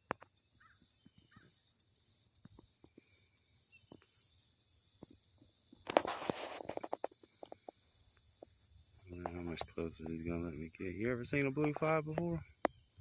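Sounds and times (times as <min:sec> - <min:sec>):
crickets chirping: 0:00.0 - 0:13.0
faint clicks: 0:00.0 - 0:13.0.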